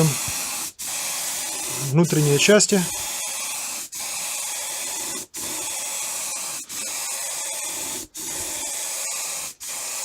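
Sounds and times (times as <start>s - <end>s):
spray gun hissing: 0.0s - 10.0s.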